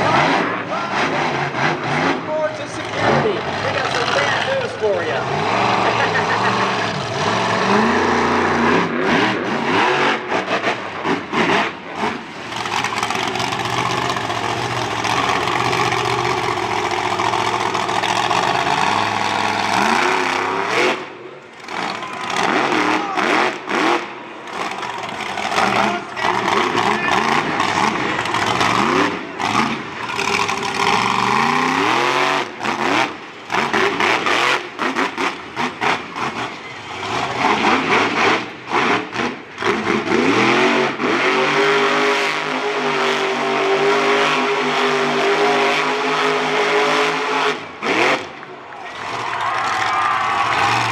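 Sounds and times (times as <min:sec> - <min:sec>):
truck engine revving hard: 0:00.0 - 0:50.9.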